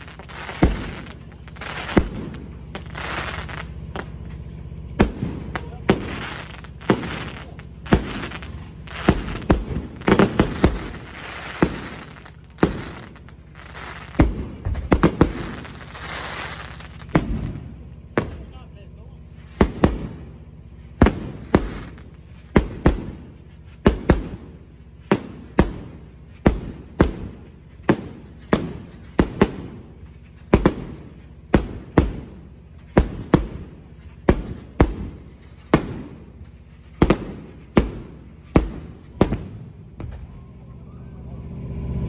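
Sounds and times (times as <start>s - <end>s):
fireworks banging: 0.0s - 42.0s.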